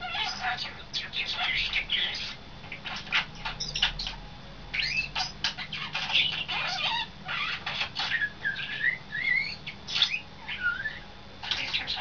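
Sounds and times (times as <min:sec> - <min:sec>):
starling whistling: 0:00.1 - 0:12.0.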